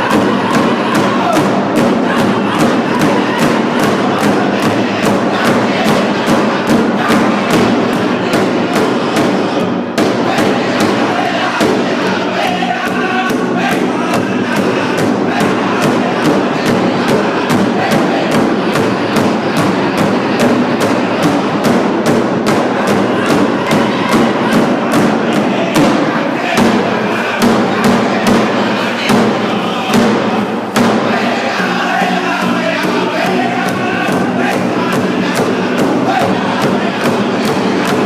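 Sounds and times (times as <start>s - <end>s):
big drum beating: 0.0s - 38.0s
group of voices singing: 0.0s - 38.0s.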